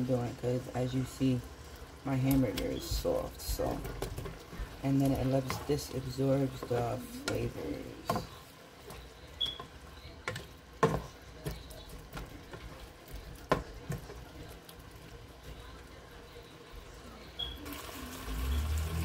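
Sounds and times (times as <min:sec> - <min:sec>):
faint sizzle of frying: 0:00.0 - 0:19.0.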